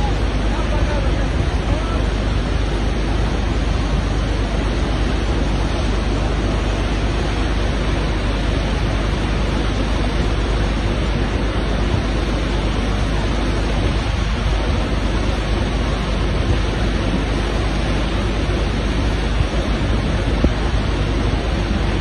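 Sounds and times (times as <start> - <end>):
river rushing in flood: 0.0 - 22.0.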